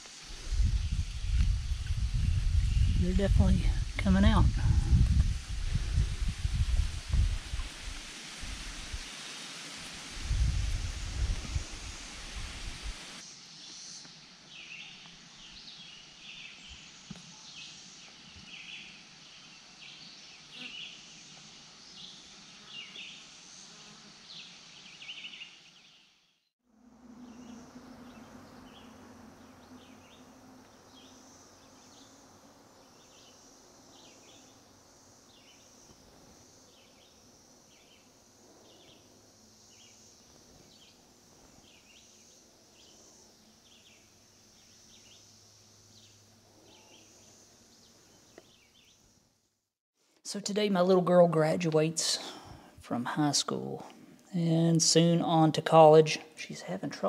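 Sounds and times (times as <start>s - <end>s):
distant cicada chorus drone: 0.0s - 49.5s.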